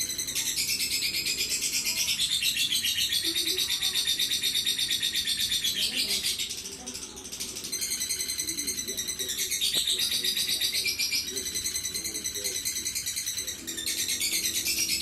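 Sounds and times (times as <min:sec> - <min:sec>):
lovebird chattering: 0:00.0 - 0:15.0.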